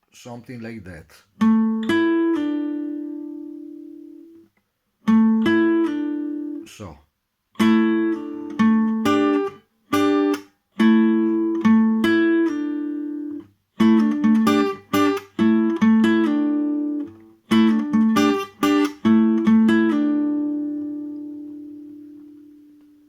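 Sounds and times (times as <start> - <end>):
guitar picked riff: 1.4 - 6.7, 7.6 - 23.0.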